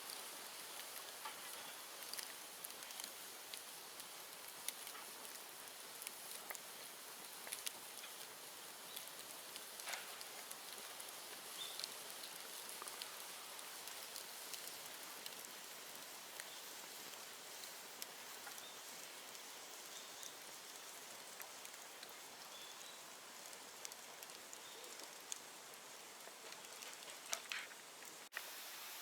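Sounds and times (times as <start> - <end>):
fire crackling and popping: 0.0 - 29.0
fire hissing: 0.0 - 29.0.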